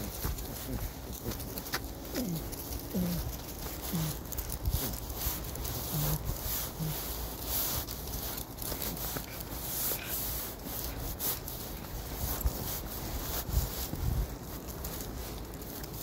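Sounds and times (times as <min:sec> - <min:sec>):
footsteps in dry leaves: 0:00.0 - 0:16.0.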